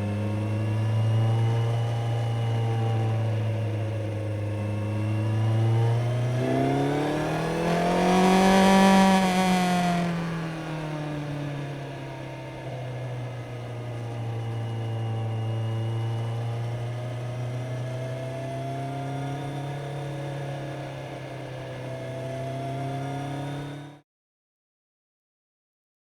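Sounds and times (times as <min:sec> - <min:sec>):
motorcycle engine: 0:00.0 - 0:24.0.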